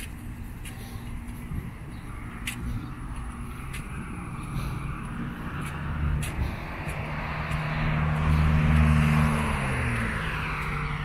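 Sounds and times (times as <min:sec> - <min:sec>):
vehicle approaching and passing: 0:00.0 - 0:11.0.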